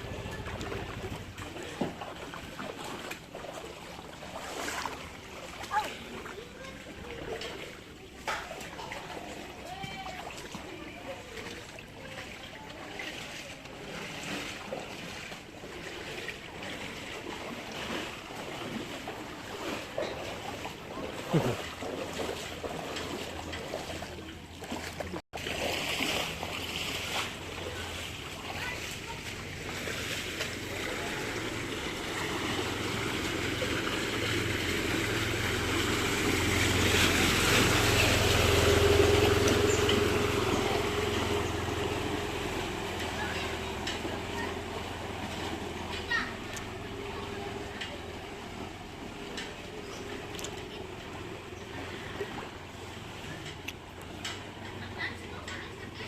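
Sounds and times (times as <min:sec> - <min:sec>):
floodwater rushing and sloshing: 0:00.0 - 0:56.0
vehicle engine hum: 0:00.0 - 0:56.0
wash of moving water: 0:00.0 - 0:56.0.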